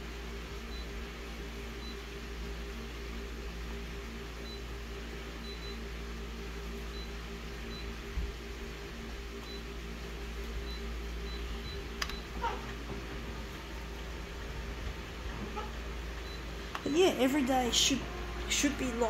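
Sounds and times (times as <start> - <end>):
copier fan hum: 0.0 - 19.0.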